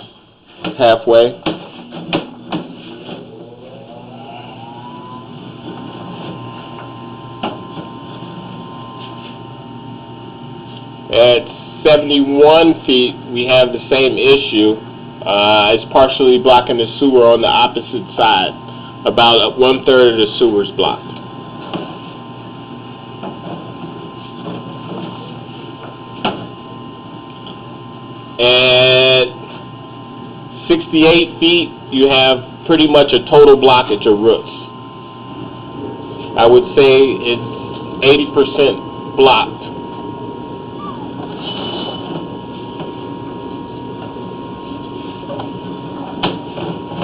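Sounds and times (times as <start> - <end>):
electrical hum: 0.0 - 47.0
mechanical running noise: 0.0 - 47.0
faint high whine: 2.2 - 23.2, 25.1 - 47.0.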